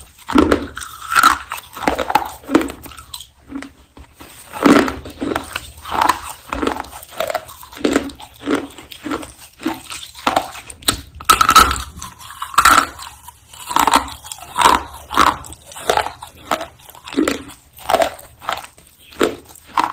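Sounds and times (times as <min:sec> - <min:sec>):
person crunching and chewing: 0:00.0 - 0:19.9.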